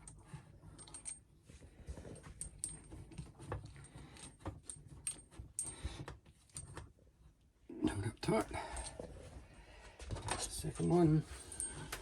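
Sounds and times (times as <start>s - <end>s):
hoses and metal fittings clinking: 0.0s - 7.0s, 7.8s - 9.3s, 10.0s - 12.0s.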